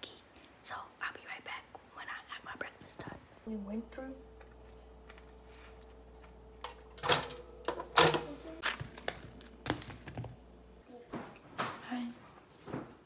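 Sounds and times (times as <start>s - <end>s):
faint steady hum: 0.0s - 12.6s.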